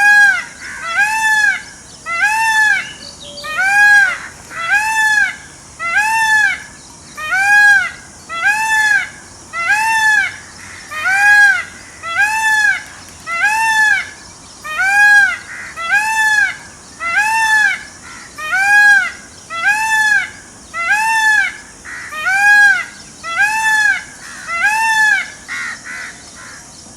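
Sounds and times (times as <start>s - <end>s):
peacock calling: 0.0s - 26.7s.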